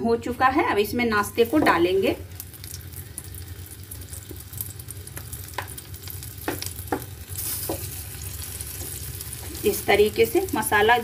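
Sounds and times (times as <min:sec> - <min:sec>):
frying in hot oil: 0:00.1 - 0:11.0.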